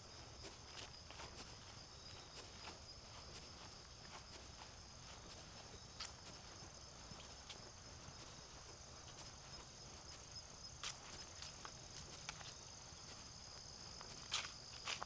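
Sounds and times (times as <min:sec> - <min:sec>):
insects trilling: 0:00.0 - 0:15.0
soft footsteps on a trail: 0:00.0 - 0:15.0.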